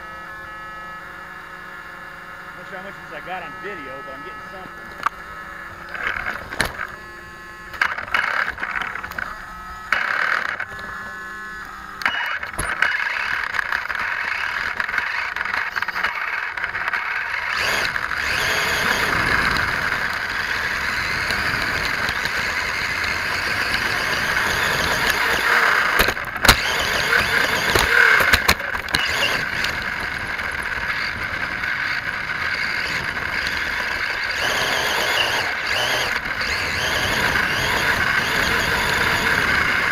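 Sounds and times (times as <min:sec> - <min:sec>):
rc car motor whining: 0:00.0 - 0:39.9.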